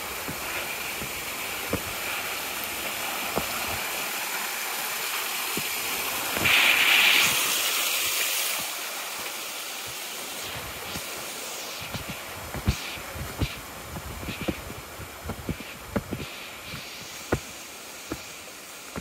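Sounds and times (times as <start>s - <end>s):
footsteps on rocky trail: 0.0s - 4.3s, 5.4s - 19.0s
waterfall splashing: 0.0s - 19.0s.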